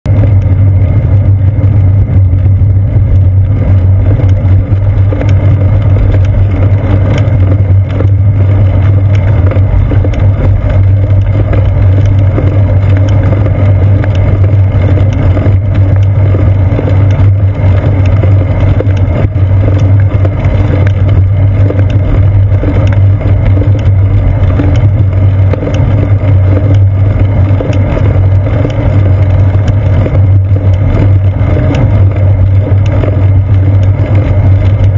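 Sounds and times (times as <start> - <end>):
road vibration rumble: 0.0 - 34.9
wind buffeting: 0.1 - 34.9.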